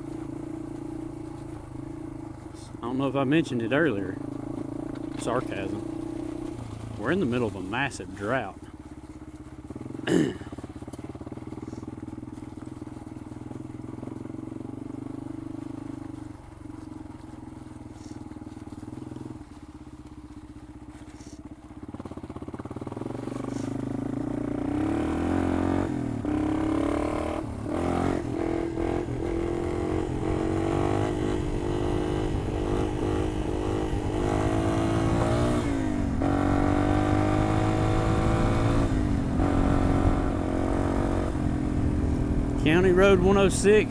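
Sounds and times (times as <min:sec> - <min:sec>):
motorcycle engine revving: 0:00.0 - 0:19.6, 0:20.4 - 0:43.9.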